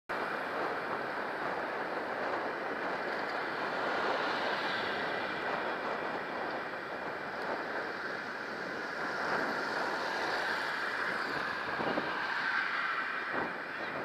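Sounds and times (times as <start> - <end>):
road traffic: 0.1 - 14.0
wind on microphone: 0.1 - 14.0.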